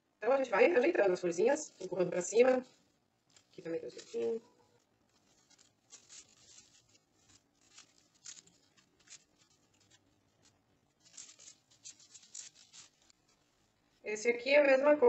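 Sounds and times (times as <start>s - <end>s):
artificial flowers rustling: 0.2s - 15.0s.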